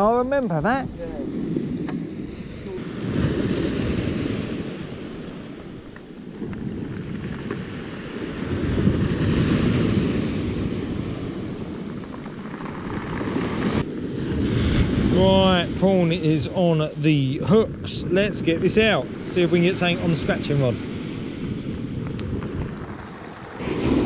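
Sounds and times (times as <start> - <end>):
wind on microphone: 0.0 - 24.0
surf washing on shore: 0.7 - 24.0.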